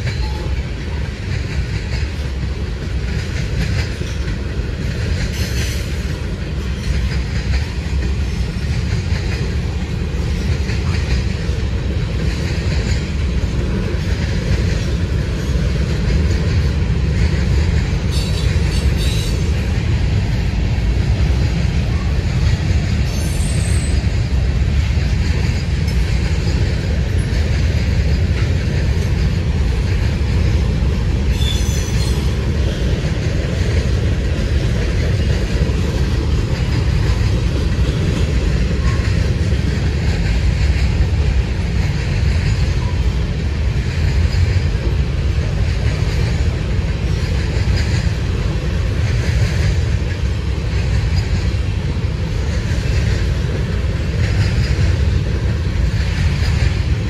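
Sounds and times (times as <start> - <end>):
train cars rumbling on rails: 0.0 - 57.0.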